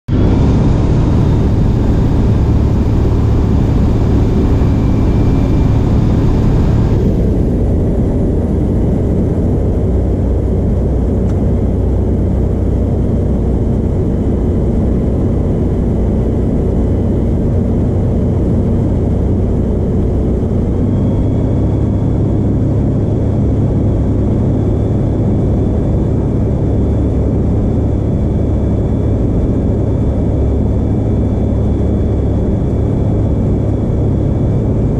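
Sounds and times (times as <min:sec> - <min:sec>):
aircraft engine and propeller: 0:00.1 - 0:34.9
wind rush: 0:00.1 - 0:34.9.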